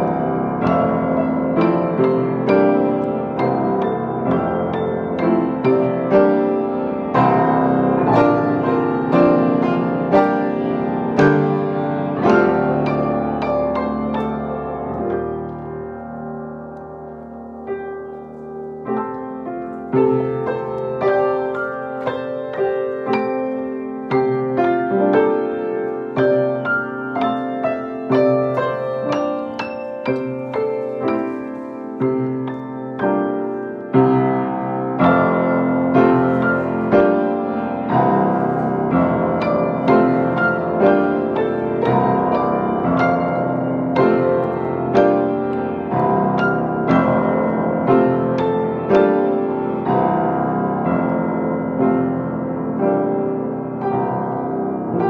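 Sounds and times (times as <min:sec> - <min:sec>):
grand piano chords: 0:00.0 - 0:55.0.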